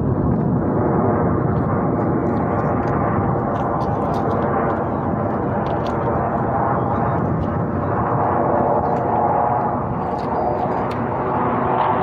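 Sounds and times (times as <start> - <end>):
jet engines roaring overhead: 0.0 - 12.0.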